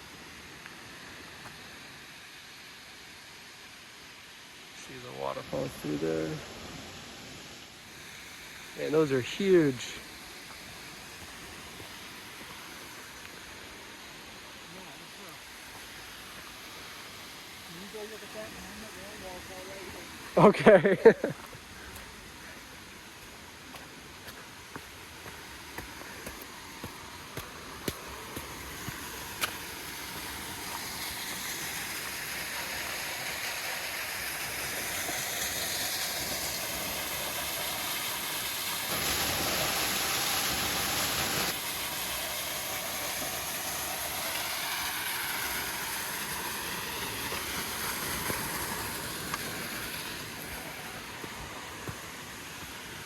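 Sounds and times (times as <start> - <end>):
waterfall roaring: 7.8 - 53.0.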